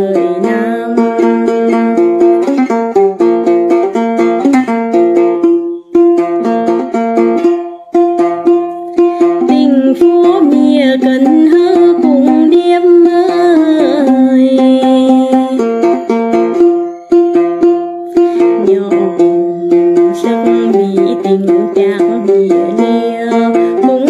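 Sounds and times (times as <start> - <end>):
plucked lute notes: 0.0 - 24.0.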